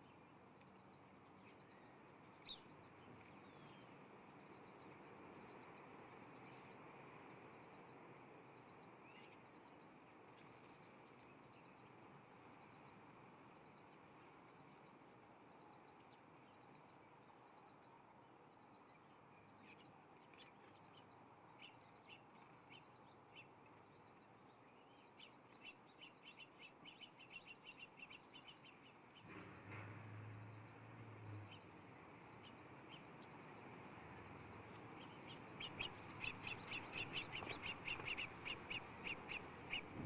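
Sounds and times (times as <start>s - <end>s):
faint birds chirping: 0.0s - 40.0s.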